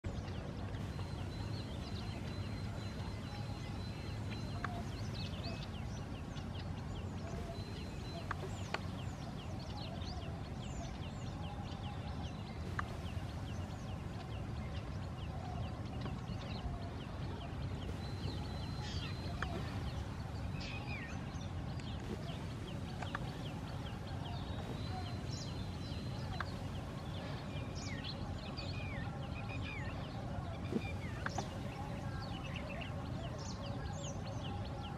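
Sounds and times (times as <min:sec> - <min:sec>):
birds chirping: 0:00.0 - 0:34.9
steady low rumble: 0:00.0 - 0:34.9.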